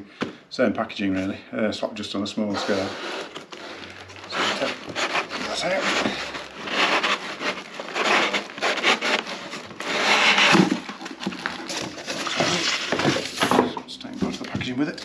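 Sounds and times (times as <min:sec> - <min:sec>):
pulp tray scraping cardboard box: 0:02.5 - 0:15.0.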